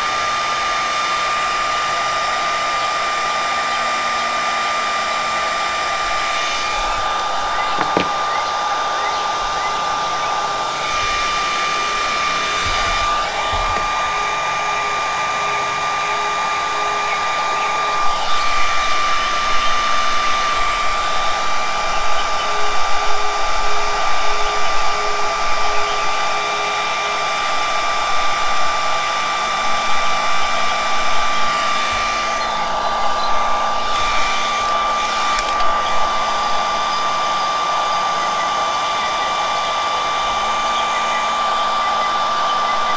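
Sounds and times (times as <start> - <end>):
heat gun blowing with high whine: 0.0 - 42.9.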